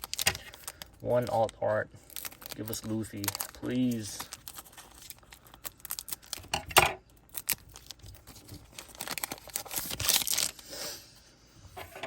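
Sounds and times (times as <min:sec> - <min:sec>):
foil pack tearing and crinkling: 0:00.0 - 0:10.8.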